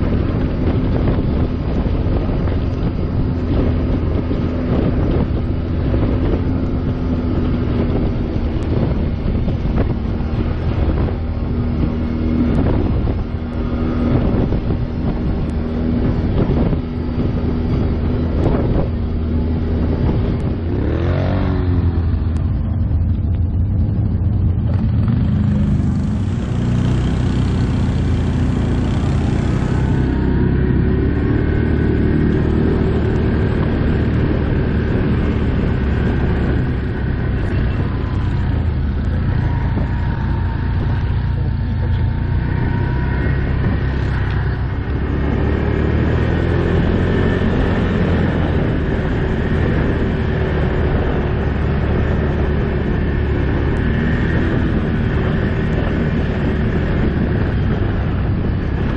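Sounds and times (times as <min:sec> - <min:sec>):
quad bike engine running: 0:00.0 - 0:58.9.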